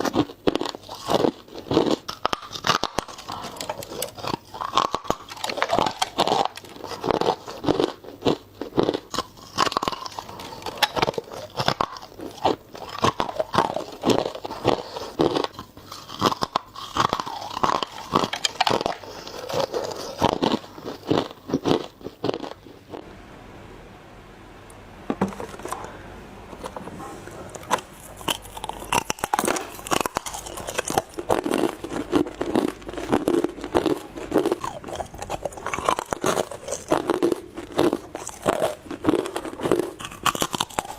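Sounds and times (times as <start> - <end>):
ice being chewed: 0.0 - 23.0, 27.5 - 40.9.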